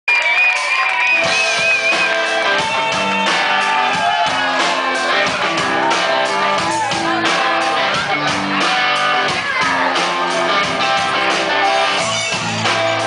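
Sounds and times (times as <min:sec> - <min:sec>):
live band playing: 0:00.1 - 0:13.0
strummed guitar chords: 0:01.3 - 0:13.0.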